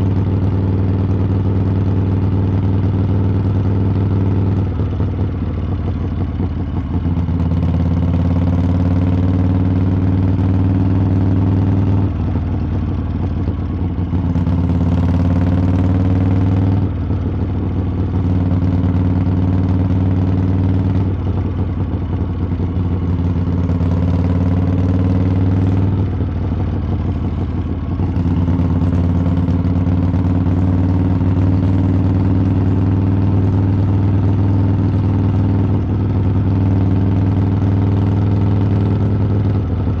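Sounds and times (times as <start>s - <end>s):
motorcycle engine rumbling: 0.0s - 40.0s.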